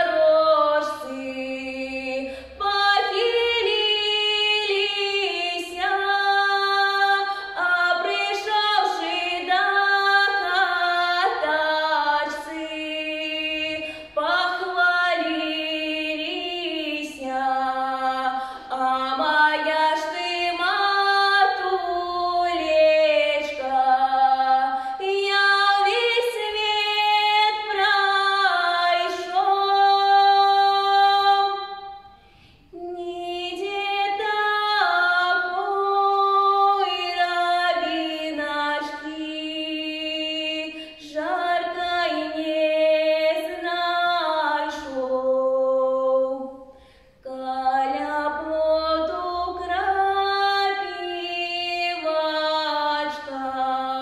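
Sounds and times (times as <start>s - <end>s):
woman singing unaccompanied: 0.0s - 32.0s, 32.7s - 46.6s, 47.2s - 54.0s.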